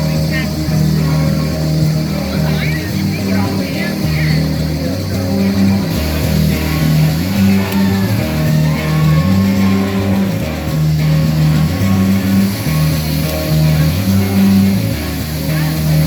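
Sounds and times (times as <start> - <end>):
bass line: 0.0 - 16.0
rock music with guitar: 0.0 - 16.0.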